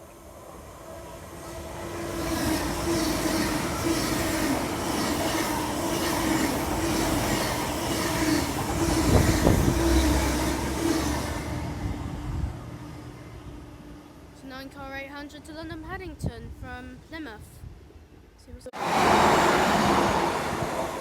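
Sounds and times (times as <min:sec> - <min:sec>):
train passing hum: 0:00.0 - 0:21.0.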